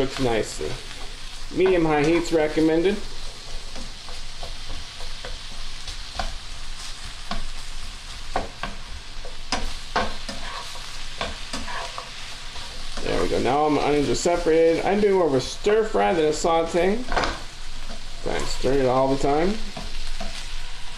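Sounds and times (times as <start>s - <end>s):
vegetables sizzling in a frying pan: 0.0s - 20.9s
spatula scraping and knocking a pan: 0.9s - 13.5s, 16.0s - 20.6s.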